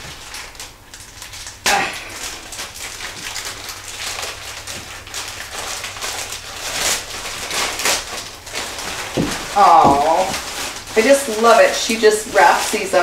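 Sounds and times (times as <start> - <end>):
plastic mailer ripping: 0.0 - 13.0
plastic rustling and crackling: 0.0 - 13.0.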